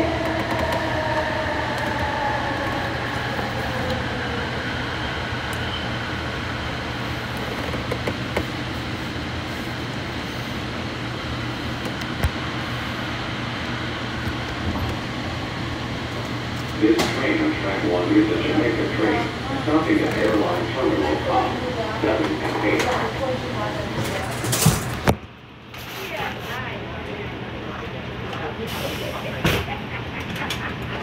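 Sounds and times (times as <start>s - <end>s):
train car rolling rumble: 0.0s - 31.0s.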